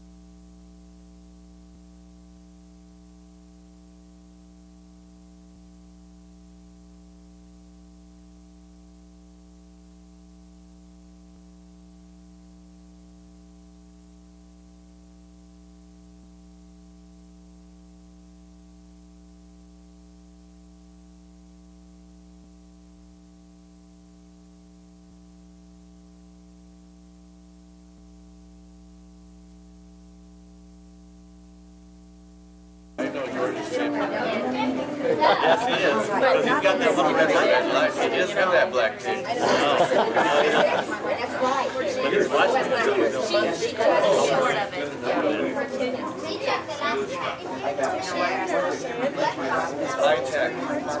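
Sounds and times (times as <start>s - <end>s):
electrical mains hum: 0.0s - 51.0s.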